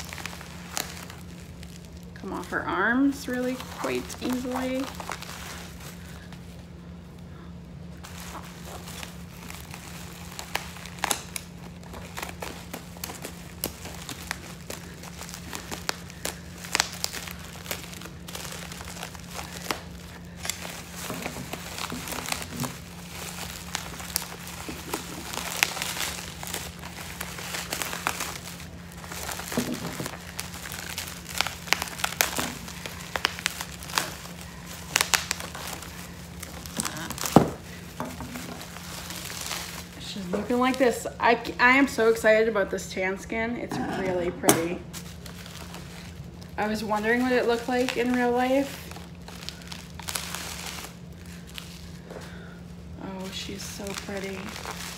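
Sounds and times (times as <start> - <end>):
plastic wrapping crinkling: 0.0 - 54.9.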